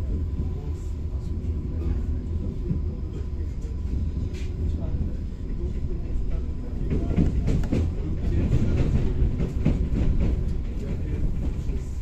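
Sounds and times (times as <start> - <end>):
passing train: 0.0 - 12.0
train interior rumble: 0.0 - 12.0.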